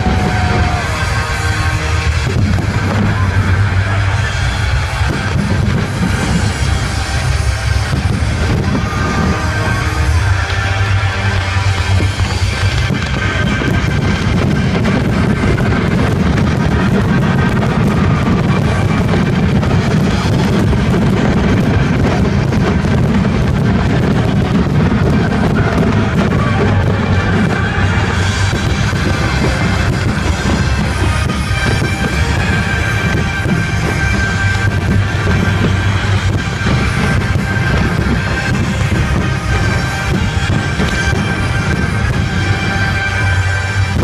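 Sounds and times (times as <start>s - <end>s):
loud rock music: 0.0s - 44.0s.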